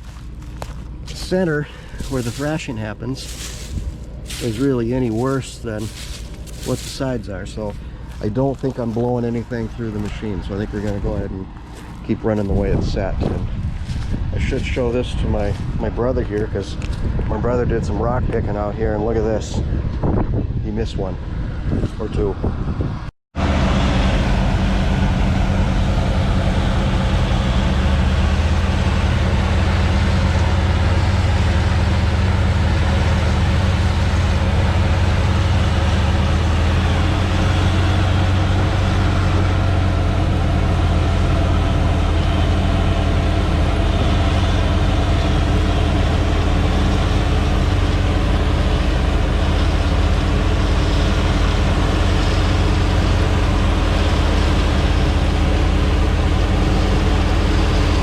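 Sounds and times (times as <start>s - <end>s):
combine harvester running: 0.0s - 20.0s, 23.4s - 58.0s.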